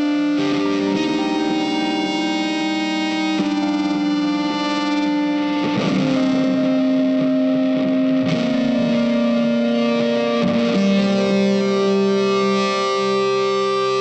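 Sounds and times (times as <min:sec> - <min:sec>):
distorted electric guitar notes: 0:00.0 - 0:14.0.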